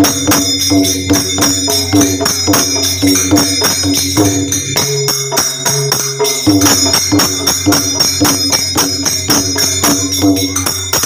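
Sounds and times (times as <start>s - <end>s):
hand cymbals clashing: 0.0s - 11.0s
hand drum: 0.0s - 11.0s.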